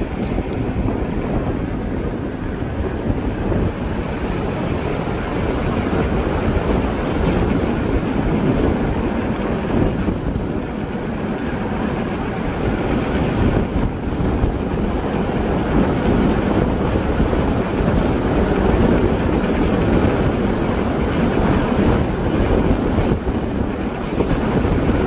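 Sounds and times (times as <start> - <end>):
bike tyres on rough asphalt: 0.0 - 25.0
wind buffeting microphone: 0.0 - 25.0.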